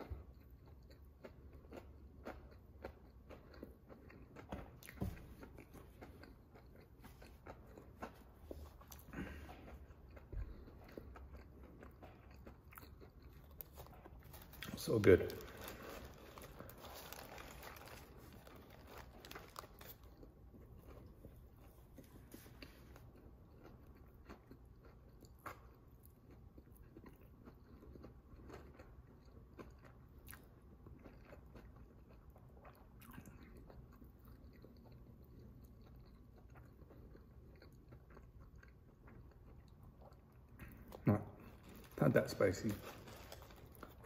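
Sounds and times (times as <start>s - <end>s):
person chewing crunchy food: 0.0s - 42.0s, 42.6s - 44.0s.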